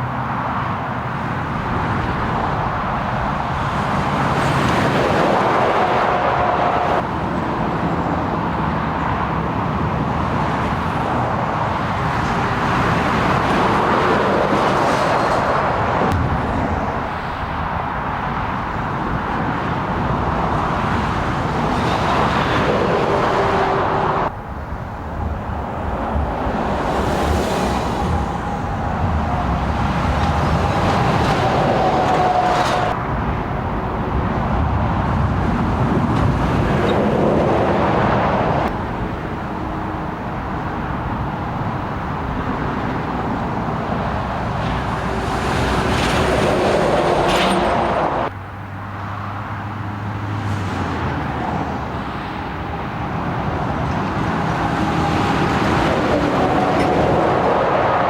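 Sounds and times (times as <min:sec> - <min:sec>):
heavy lorries passing: 0:00.0 - 0:58.0.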